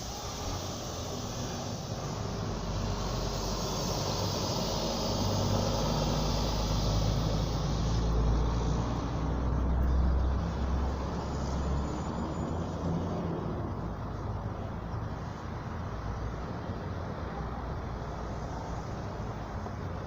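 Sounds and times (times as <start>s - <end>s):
vehicle rumble with road noise: 0.0s - 20.0s.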